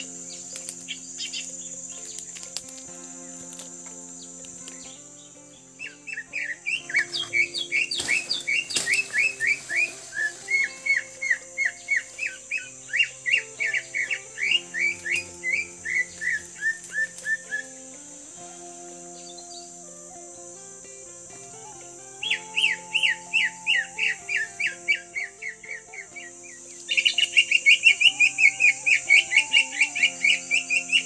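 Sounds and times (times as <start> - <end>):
background music sustained notes: 0.0 - 31.0.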